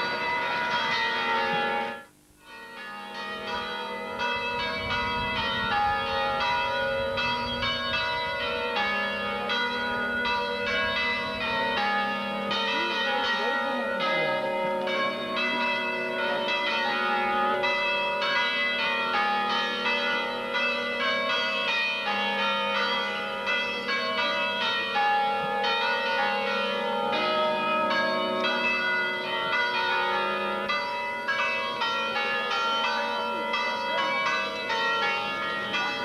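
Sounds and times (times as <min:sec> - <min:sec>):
church bells pealing: 0:00.0 - 0:36.0.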